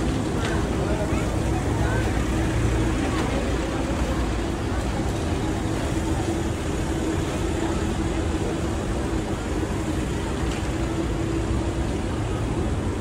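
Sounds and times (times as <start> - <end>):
minibuses passing: 0.0 - 13.0.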